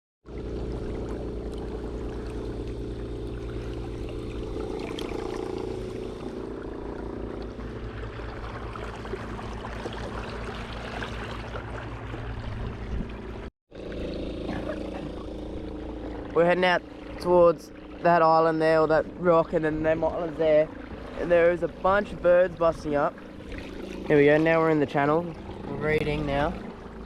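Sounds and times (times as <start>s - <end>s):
small boat motor running: 0.2s - 27.0s
water splashing along hull: 0.2s - 27.0s.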